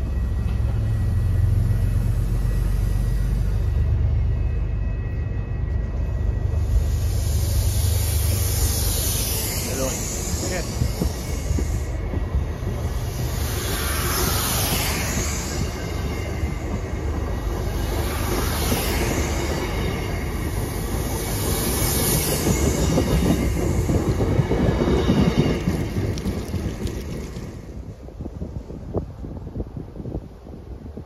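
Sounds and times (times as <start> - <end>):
train cars rolling past: 0.0 - 30.8.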